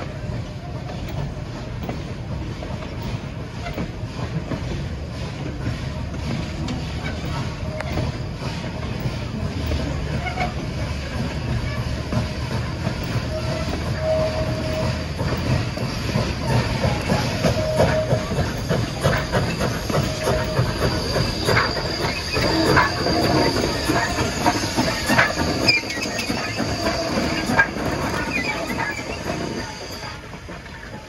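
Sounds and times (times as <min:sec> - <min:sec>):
wheel squeal: 0:00.0 - 0:31.0
wheels clicking over rail joints: 0:00.0 - 0:31.0.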